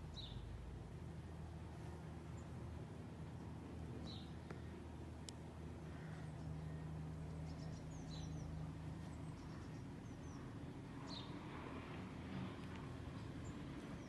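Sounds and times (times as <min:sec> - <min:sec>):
low rumble and hum: 0:00.0 - 0:14.0.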